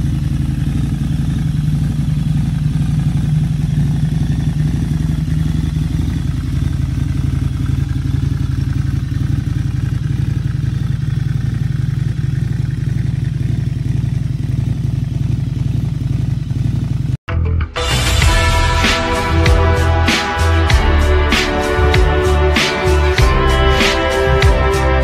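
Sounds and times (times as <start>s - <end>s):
motorcycle engine idling: 0.0s - 17.2s, 18.0s - 25.0s.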